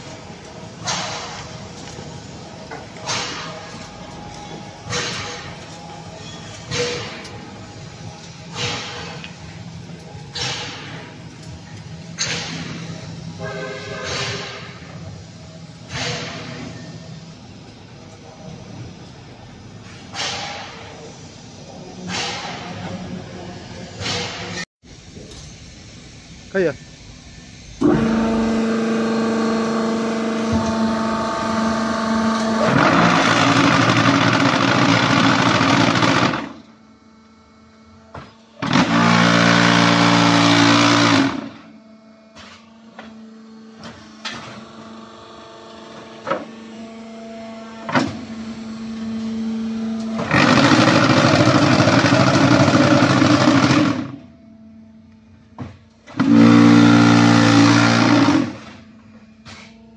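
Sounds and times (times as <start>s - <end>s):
hydraulic pump motor hum: 0.0s - 22.7s, 27.7s - 59.8s
vibrators rattling: 0.0s - 23.4s, 24.0s - 42.1s, 42.7s - 59.3s.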